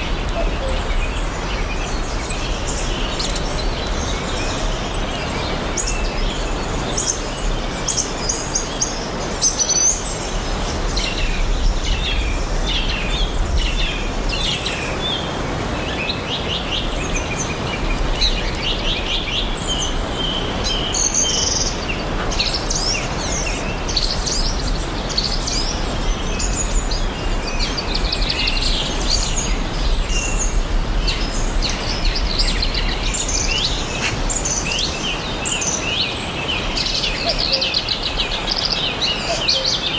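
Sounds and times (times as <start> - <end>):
songbirds chirping and trilling: 0.0 - 39.9
steady outdoor hiss: 0.0 - 39.9.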